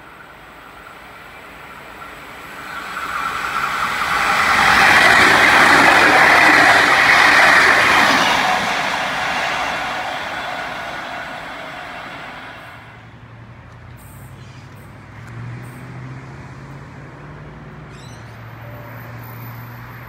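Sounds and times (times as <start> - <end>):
electric train passing at speed: 0.0 - 14.3, 16.9 - 20.0.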